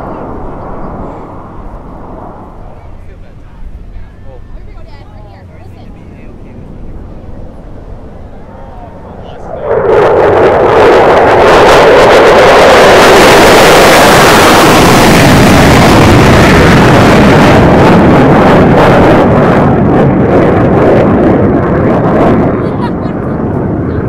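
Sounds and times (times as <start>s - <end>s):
jet engine roar overhead: 0.0s - 24.0s.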